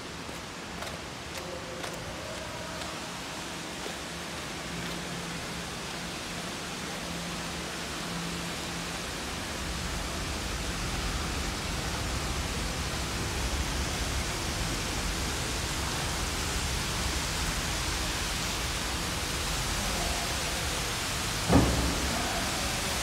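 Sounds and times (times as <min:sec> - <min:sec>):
storm water pouring: 0:01.9 - 0:23.0.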